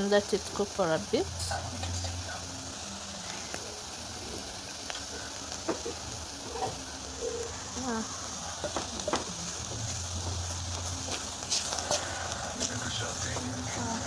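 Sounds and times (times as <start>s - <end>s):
meat and onions sizzling: 0.0s - 14.0s.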